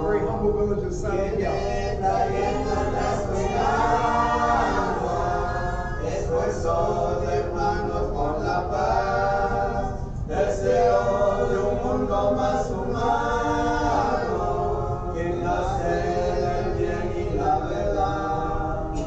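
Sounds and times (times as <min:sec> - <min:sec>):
choir singing chant: 0:01.2 - 0:19.0.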